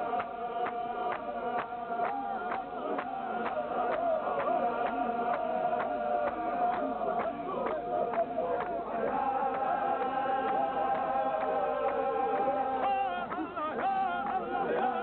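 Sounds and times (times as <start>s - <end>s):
sharp rhythmic beats: 0.0s - 15.0s
voices chanting: 0.0s - 15.0s.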